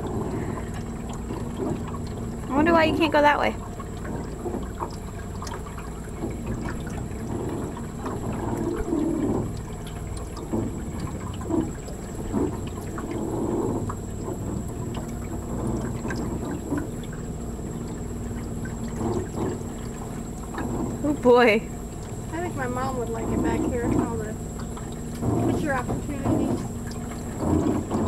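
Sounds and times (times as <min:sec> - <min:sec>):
water splashing and trickling: 0:00.0 - 0:28.0.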